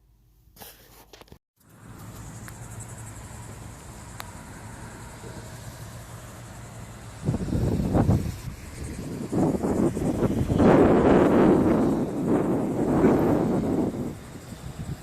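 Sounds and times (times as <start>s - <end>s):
distant road traffic hum: 1.6s - 15.0s
insects chirring: 1.7s - 15.0s.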